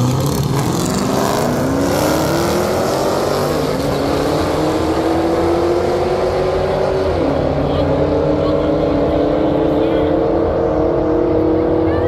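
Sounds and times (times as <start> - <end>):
race car engines accelerating: 0.0 - 12.0.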